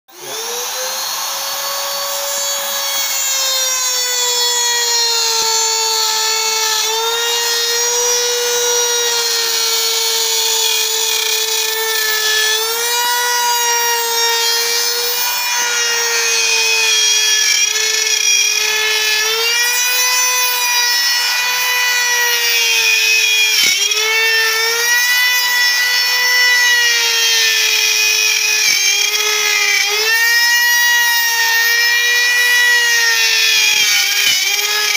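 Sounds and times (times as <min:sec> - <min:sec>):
router motor whine cutting wood: 0:00.1 - 0:34.9.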